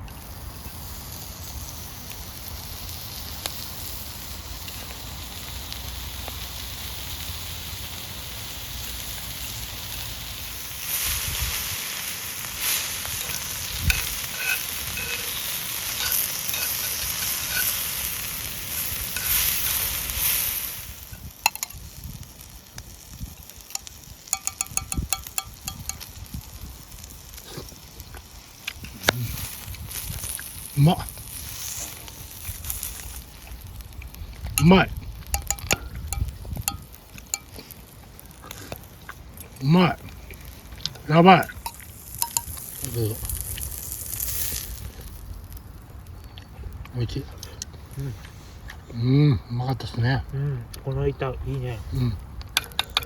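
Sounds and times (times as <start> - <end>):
food sizzling in frying: 0.0 - 46.4.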